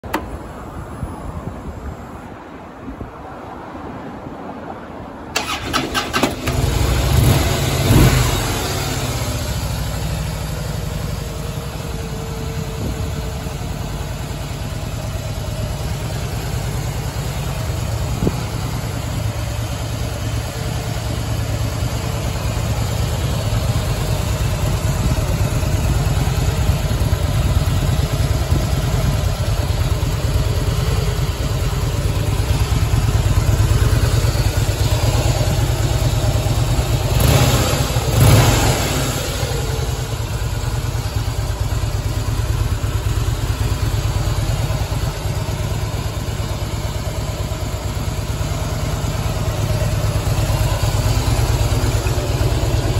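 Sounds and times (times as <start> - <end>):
motorcycle engine idling and revving: 0.0 - 2.2, 5.3 - 52.9.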